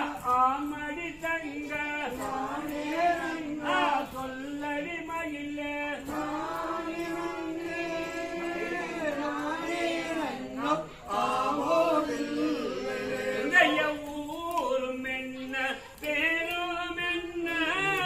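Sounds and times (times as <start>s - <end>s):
voices singing folk song: 0.0s - 18.0s.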